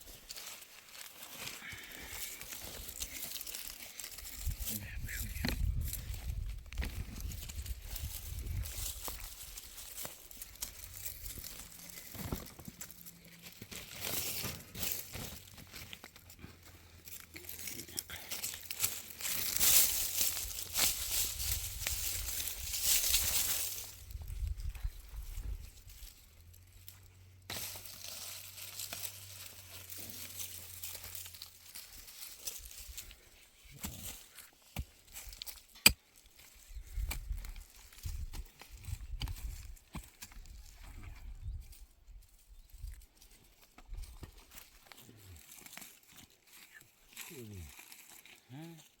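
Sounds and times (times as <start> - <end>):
rustling and crinkling: 0.0 - 49.0.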